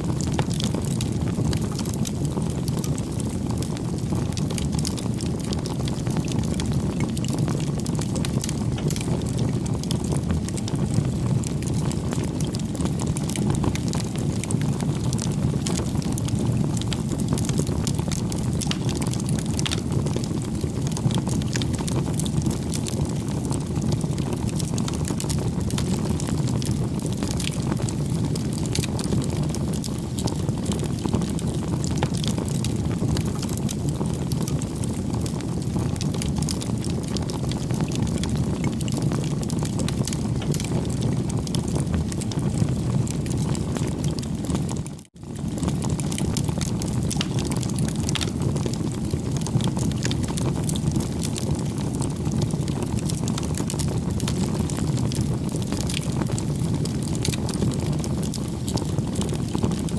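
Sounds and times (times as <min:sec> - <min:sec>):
burning wood crackling and popping: 0:00.0 - 0:59.9
campfire flames rushing: 0:00.0 - 0:59.9.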